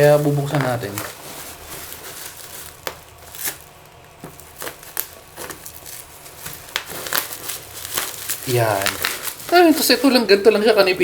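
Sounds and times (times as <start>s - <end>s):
packaging being torn and crinkled: 0.0s - 10.2s.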